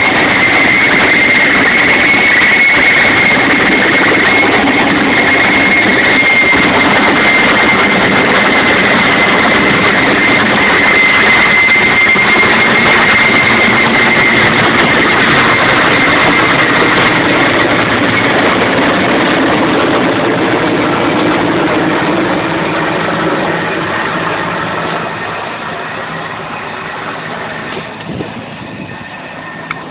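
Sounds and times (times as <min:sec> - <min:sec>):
helicopter rotor and turbine noise: 0:00.0 - 0:29.9
high turbine whine: 0:00.0 - 0:29.9.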